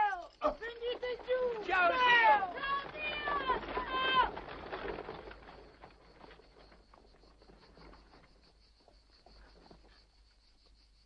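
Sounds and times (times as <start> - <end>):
carriage wheels on dirt track: 0.0 - 10.0
horse hooves clopping on dirt: 0.0 - 10.2
crickets chirping: 0.0 - 11.0.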